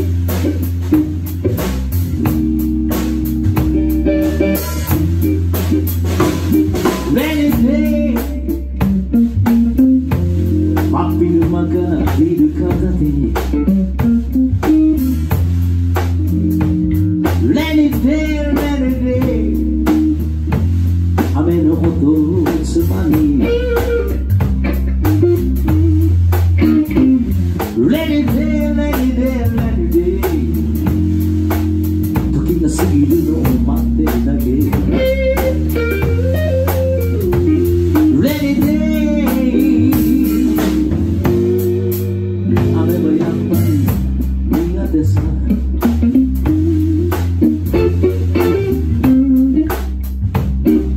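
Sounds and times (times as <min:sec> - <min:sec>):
bass guitar: 0:00.0 - 0:50.9
drum kit beat: 0:00.0 - 0:50.9
electric guitar: 0:00.0 - 0:50.9.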